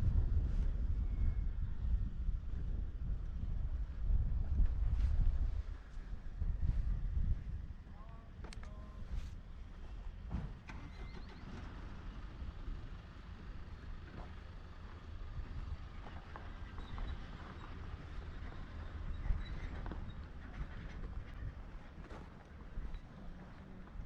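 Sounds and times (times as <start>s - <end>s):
low wind rumble on microphone: 0.0s - 24.0s.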